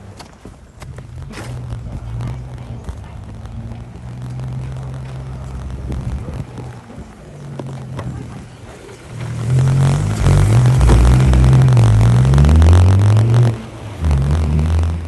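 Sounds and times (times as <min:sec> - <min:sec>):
car engine revving: 0:00.8 - 0:15.0.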